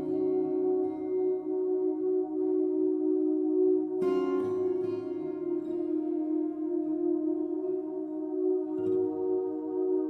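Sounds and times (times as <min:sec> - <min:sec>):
ringing ambient drone: 0:00.0 - 0:10.0.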